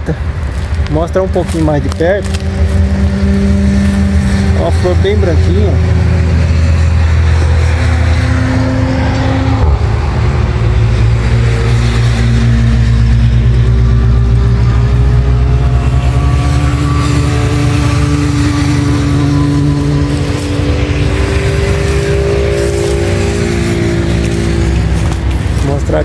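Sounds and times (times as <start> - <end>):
heavy highway traffic drone: 0.0 - 26.0.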